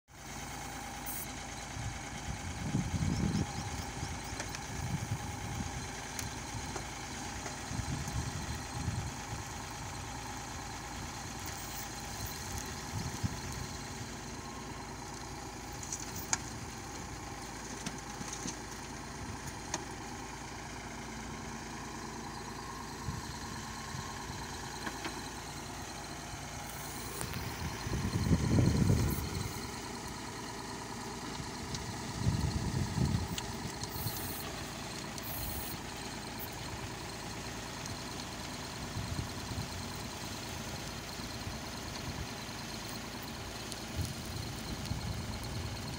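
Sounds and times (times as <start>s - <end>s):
tractor diesel engine running: 0.1s - 45.9s.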